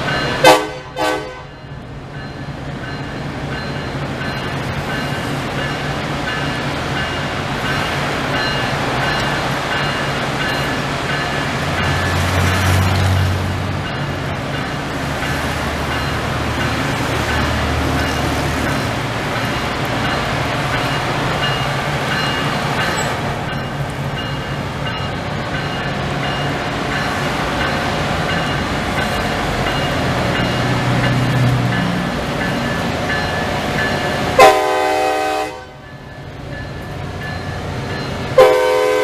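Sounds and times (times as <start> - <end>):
diesel locomotive engines droning: 0.0 - 39.0.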